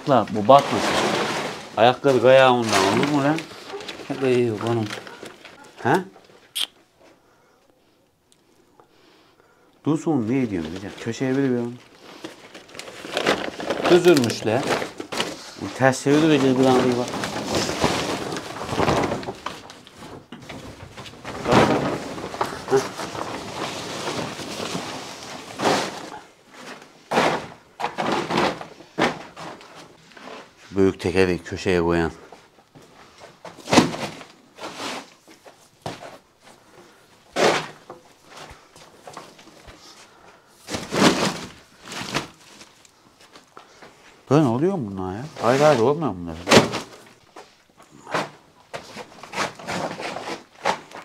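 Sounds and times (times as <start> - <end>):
tyres thudding and scraping: 0.0 - 5.9, 10.4 - 30.6, 32.8 - 40.0, 40.6 - 43.9, 45.3 - 51.0
plastic tarp rustling: 0.0 - 6.6, 9.9 - 51.0.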